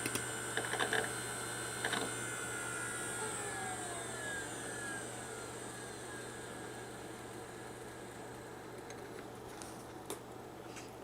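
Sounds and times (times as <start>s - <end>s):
computer fan spinning down: 0.0s - 10.1s.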